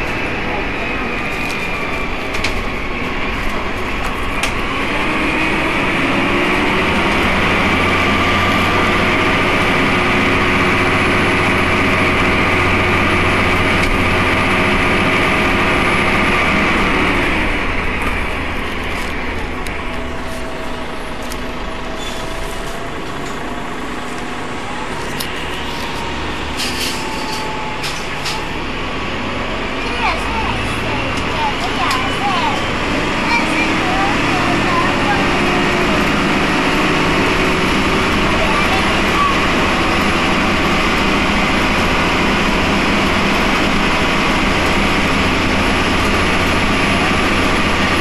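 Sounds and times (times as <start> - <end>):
diesel bus engine under load: 0.0 - 48.0
engine whine: 0.0 - 48.0.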